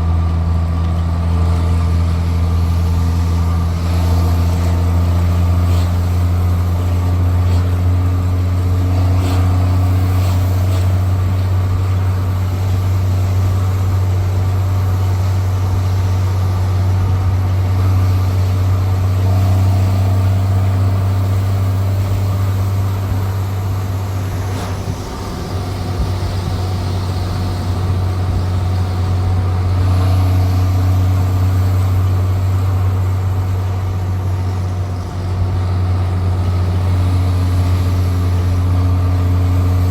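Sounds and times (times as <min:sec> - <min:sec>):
diesel bus exhaust drone: 0:00.0 - 0:39.9.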